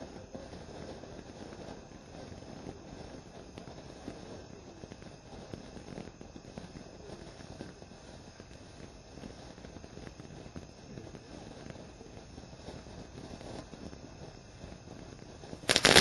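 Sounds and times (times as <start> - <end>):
firework fountain hissing and crackling: 0.0 - 16.0.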